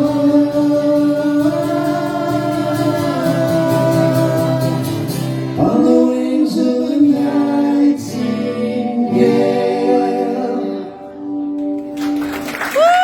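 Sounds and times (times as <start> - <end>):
sung vocal notes: 0.0 - 11.8
guitar chords: 0.0 - 13.0.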